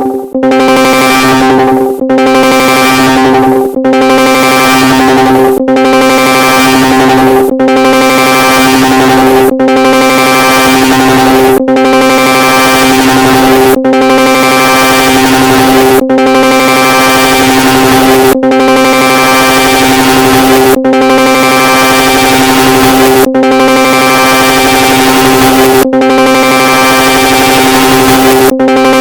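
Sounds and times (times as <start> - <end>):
harsh electronic drone: 0.0 - 29.0.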